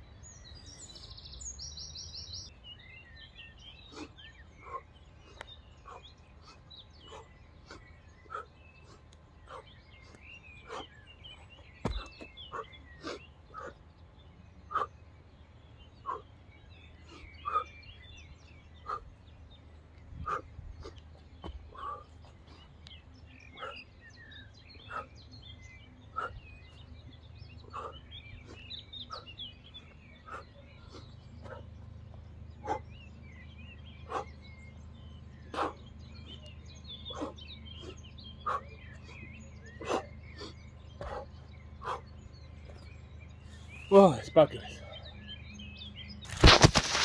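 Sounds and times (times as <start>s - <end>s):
faint bird chirps: 0.0s - 47.0s.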